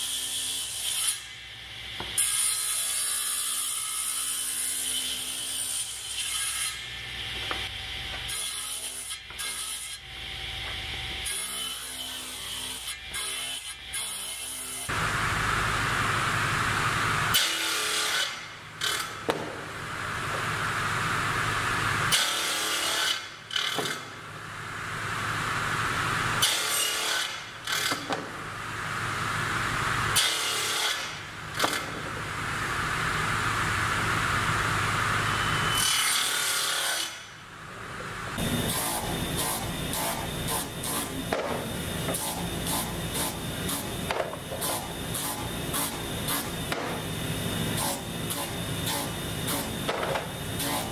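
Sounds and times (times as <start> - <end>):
table saw cutting wood: 0.0 - 50.9.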